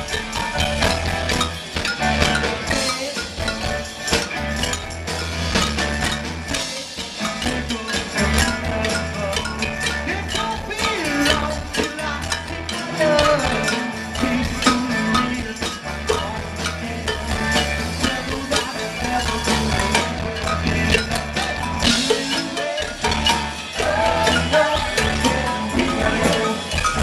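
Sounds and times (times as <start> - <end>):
bass guitar: 0.0 - 27.0
drums: 0.0 - 27.0
electric guitar: 0.0 - 27.0
keyboards: 0.0 - 27.0
tambourine jingling: 0.0 - 27.0.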